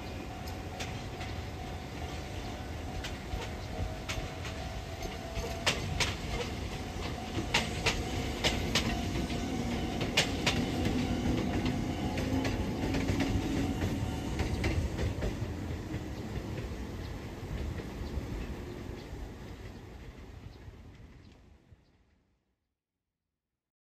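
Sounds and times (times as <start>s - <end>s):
train wheels clicking over rail joints: 0.0s - 21.3s
train rumble: 0.0s - 22.0s.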